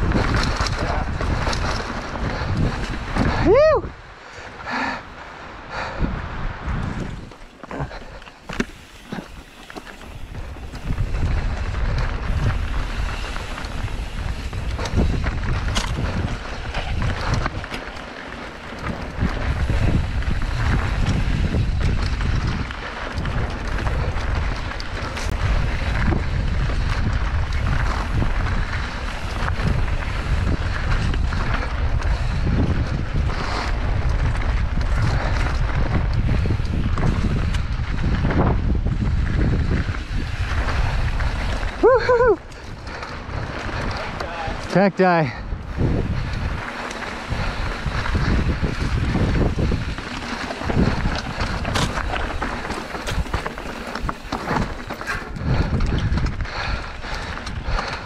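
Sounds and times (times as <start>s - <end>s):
bike clicks and clatter: 0.0s - 58.0s
bike tyre noise: 0.0s - 58.0s
wind rumbling on microphone: 0.0s - 58.0s.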